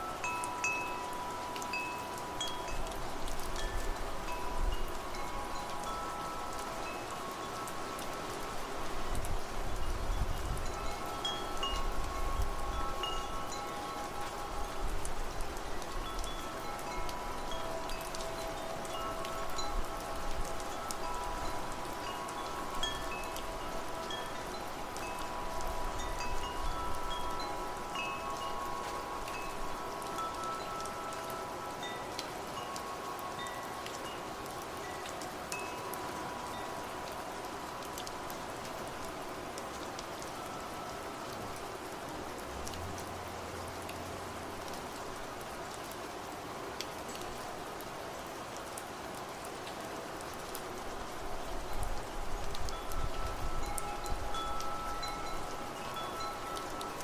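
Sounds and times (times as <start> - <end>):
wind chimes ringing: 0.0 - 47.7, 50.4 - 57.0
rain patter: 0.0 - 57.0.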